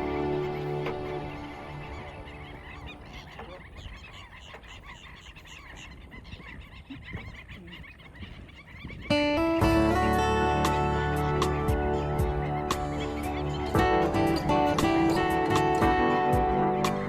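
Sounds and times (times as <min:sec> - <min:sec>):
chorus of animal calls: 0:00.0 - 0:17.0.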